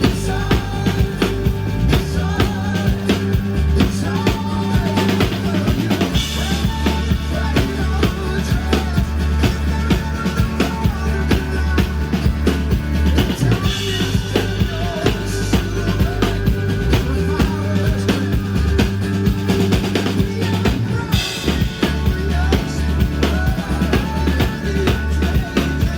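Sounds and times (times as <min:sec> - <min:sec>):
bass line: 0:00.0 - 0:25.9
drum kit beat: 0:00.0 - 0:25.9.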